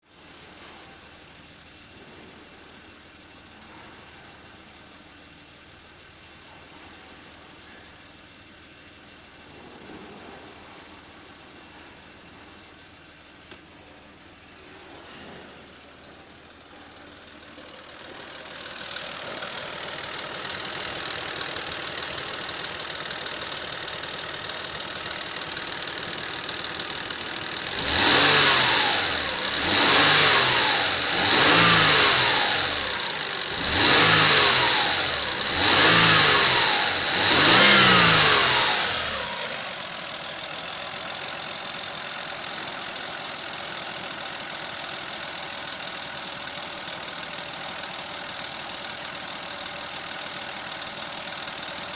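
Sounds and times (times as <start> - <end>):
car engine idling and revving: 0.1 - 51.9.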